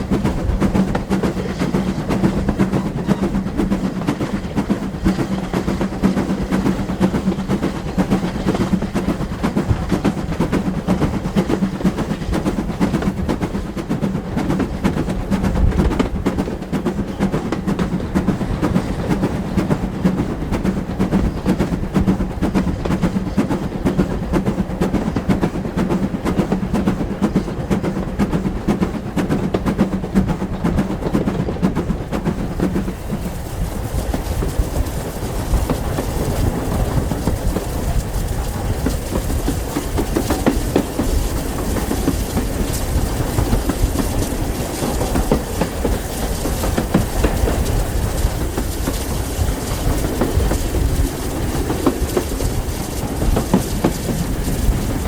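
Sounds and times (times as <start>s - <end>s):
low train hum: 0.0s - 55.0s
train wheels clickety-clack: 0.0s - 55.0s.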